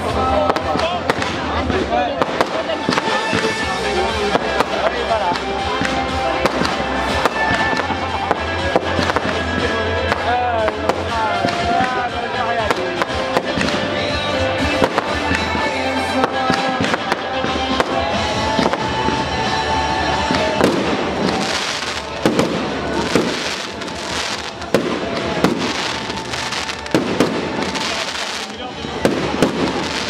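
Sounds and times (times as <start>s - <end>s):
fireworks bursting and crackling: 0.0s - 30.0s
music playing: 0.0s - 30.0s.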